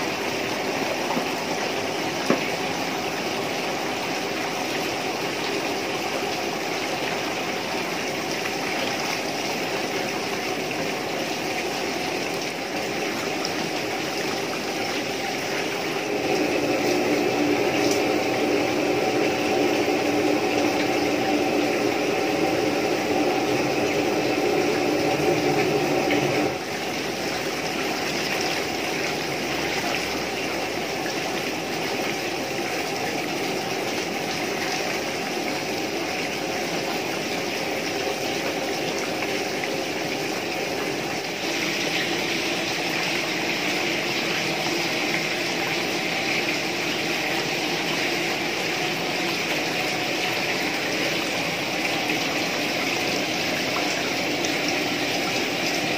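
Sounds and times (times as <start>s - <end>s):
steady hum: 0.0s - 55.9s
water from hose splashing into pot: 0.0s - 55.9s.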